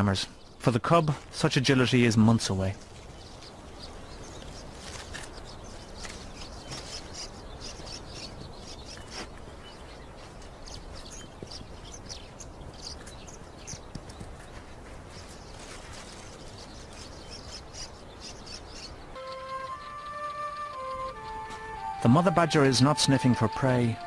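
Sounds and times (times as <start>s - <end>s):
steady background hiss: 0.0s - 24.0s
bird chirps: 3.1s - 24.0s.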